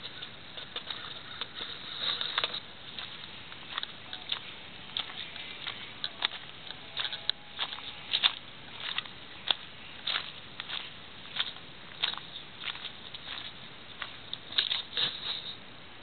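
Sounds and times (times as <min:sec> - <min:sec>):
footsteps crunching on gravel: 0:00.0 - 0:15.4.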